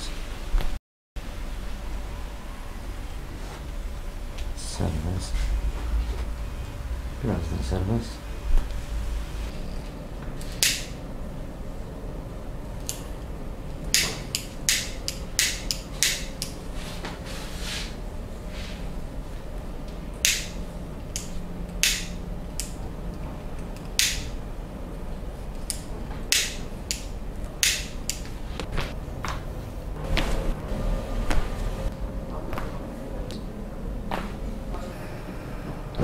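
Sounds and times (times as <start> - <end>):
low steady background hum: 0.0 - 36.0.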